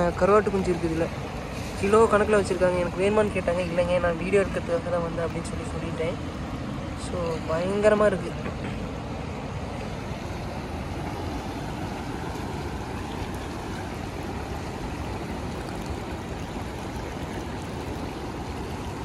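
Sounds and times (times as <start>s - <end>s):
fast-flowing river rushing: 0.0s - 19.0s.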